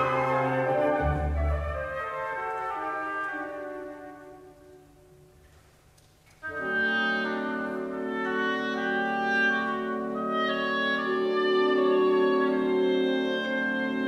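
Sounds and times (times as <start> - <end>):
sustained wind and brass chords: 0.0 - 5.0, 6.4 - 14.0
orchestral music: 0.0 - 5.6, 6.4 - 14.0.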